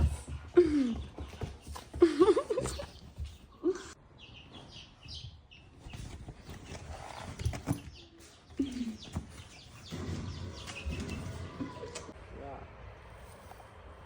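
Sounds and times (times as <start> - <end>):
chicks peeping: 0.7 - 12.1.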